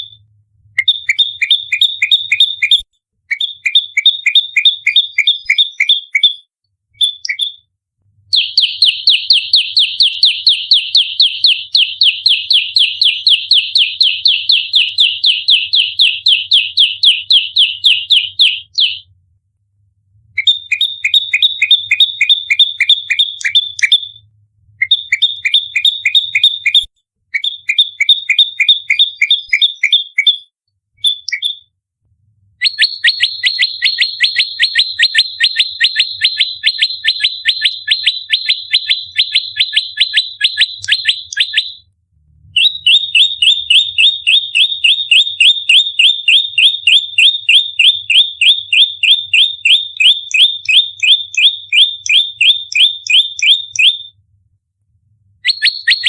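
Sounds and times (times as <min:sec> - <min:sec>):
bird singing rapid chip notes: 0:00.8 - 0:07.7, 0:08.3 - 0:19.0, 0:20.4 - 0:24.2, 0:24.8 - 0:31.7, 0:32.6 - 0:41.8, 0:42.6 - 0:54.2, 0:55.4 - 0:56.0.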